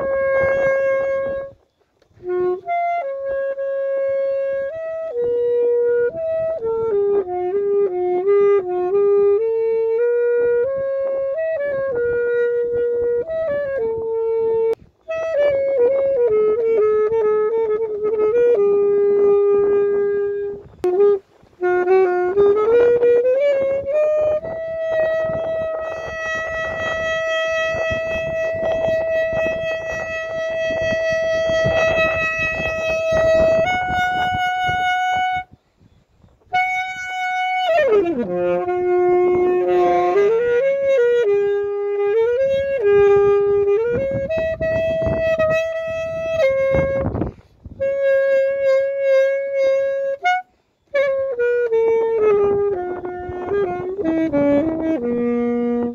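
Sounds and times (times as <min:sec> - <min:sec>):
solo saxophone melody: 0:00.0 - 0:55.9.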